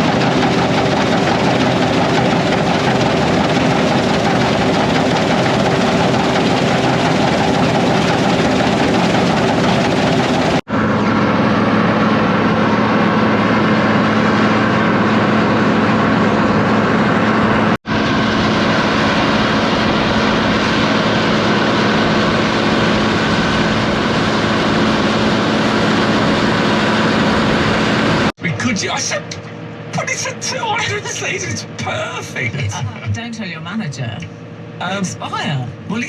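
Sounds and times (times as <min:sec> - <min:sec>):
constant low hum: 0:00.0 - 0:36.0
harvester engine drone in cab: 0:00.0 - 0:36.0.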